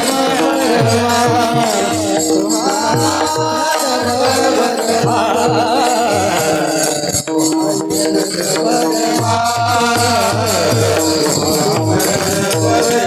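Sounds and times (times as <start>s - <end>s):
devotional melody: 0.0s - 13.0s
jingling hand cymbals: 0.0s - 13.0s.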